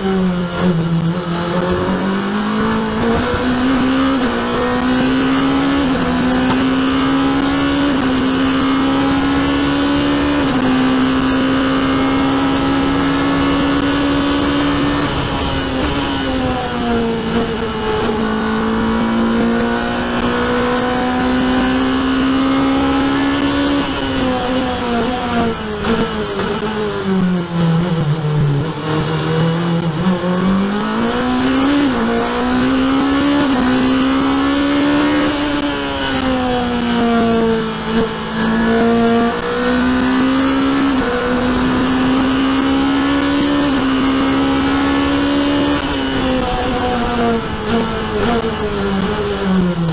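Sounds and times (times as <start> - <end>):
race car engine at high revs: 0.0 - 49.9.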